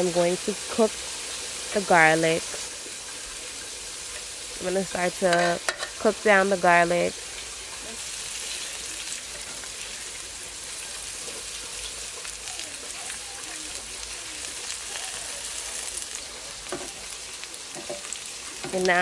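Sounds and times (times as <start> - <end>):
garlic sizzling in oil: 0.0 - 19.0.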